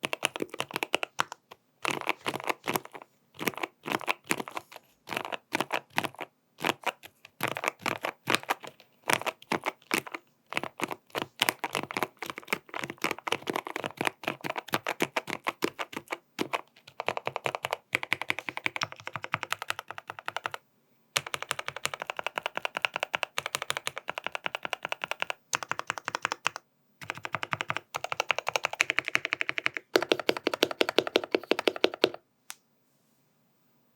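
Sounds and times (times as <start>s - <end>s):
fast typing on keyboard: 0.0s - 20.6s, 21.2s - 32.2s.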